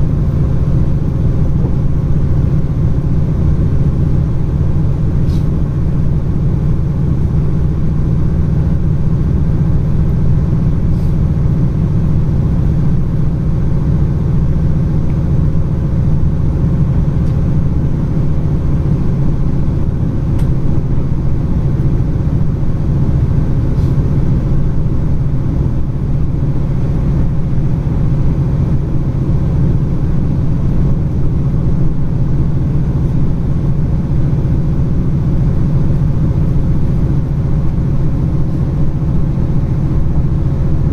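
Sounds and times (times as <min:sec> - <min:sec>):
train rumbling along tracks: 0:00.0 - 0:40.9.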